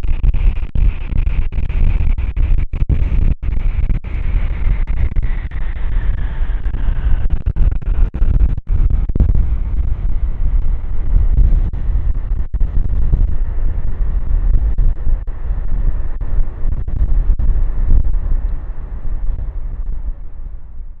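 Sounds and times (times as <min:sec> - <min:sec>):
gusty wind on microphone: 0:00.0 - 0:21.0.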